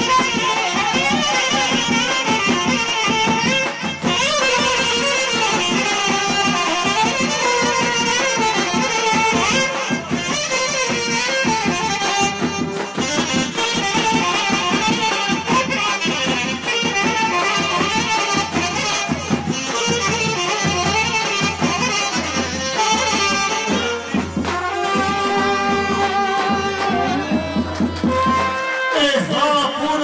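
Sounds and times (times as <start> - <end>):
brass band playing dance tune: 0.0 - 30.0.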